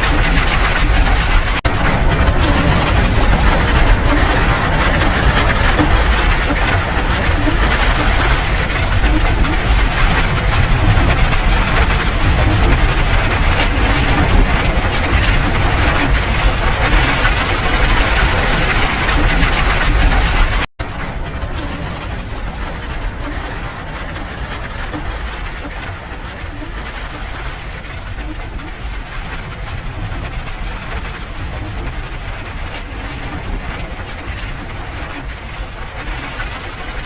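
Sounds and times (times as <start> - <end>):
deep low rumble: 0.0 - 35.3
steady rain hiss: 0.0 - 37.0.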